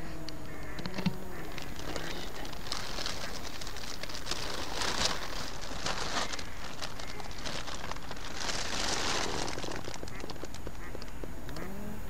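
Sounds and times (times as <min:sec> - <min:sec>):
dry grass crackling underfoot: 0:00.5 - 0:11.7.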